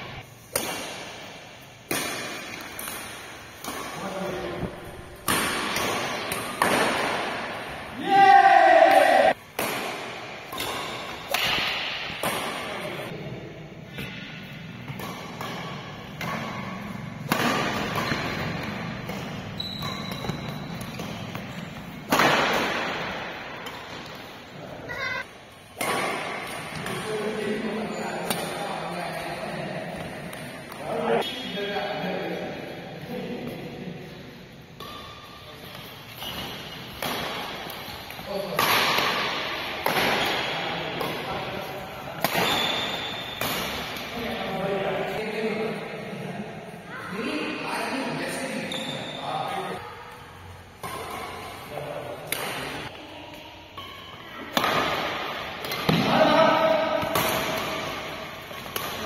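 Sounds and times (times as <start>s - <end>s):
rackets hitting shuttlecock: 0.2s - 13.2s, 13.8s - 24.5s, 25.2s - 31.4s, 34.7s - 44.8s, 50.5s - 59.0s.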